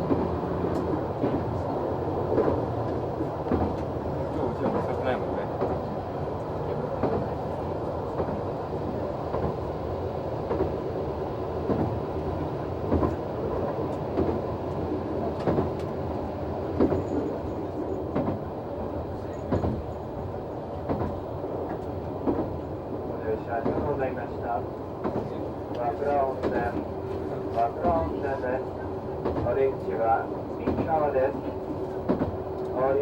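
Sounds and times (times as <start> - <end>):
railcar engine running: 0.0 - 33.0.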